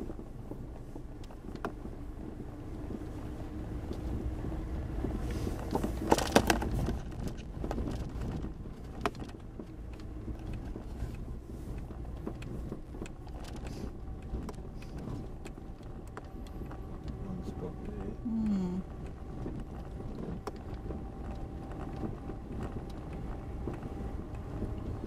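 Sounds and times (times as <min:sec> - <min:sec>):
engine and tyre rumble: 0:00.0 - 0:25.0.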